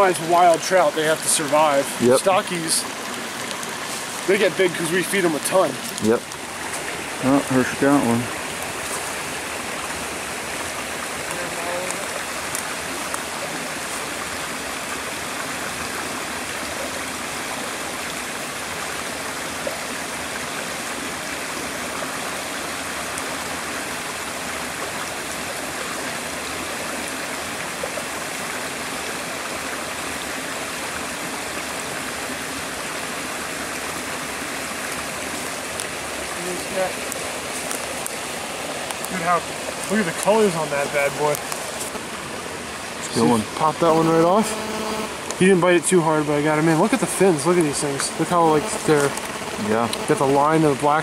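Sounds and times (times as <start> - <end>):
brook water rushing over stones: 0.0 - 51.0.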